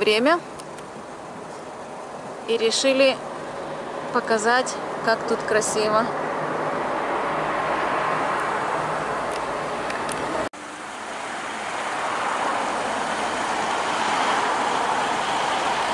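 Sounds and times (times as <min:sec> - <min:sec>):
car road and engine noise: 0:00.0 - 0:15.9.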